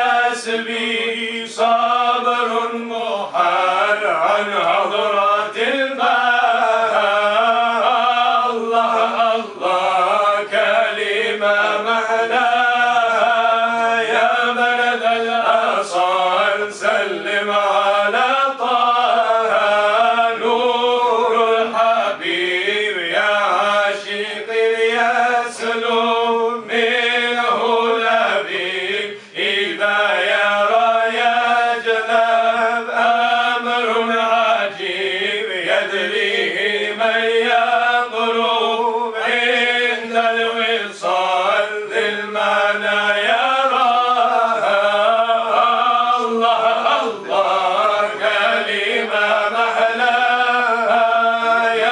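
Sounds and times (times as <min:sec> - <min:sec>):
men chanting a devotional song: 0:00.0 - 0:51.9.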